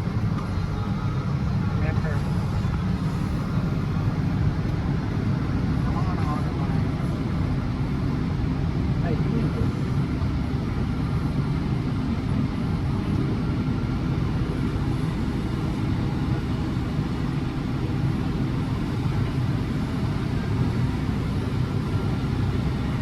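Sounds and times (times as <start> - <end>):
heavy machinery engine droning: 0.0 - 23.0.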